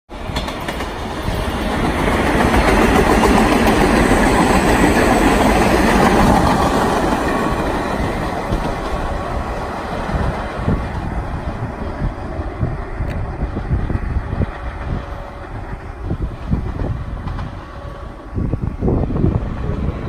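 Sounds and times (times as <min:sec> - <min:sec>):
subway train passing at speed: 0:00.1 - 0:20.0.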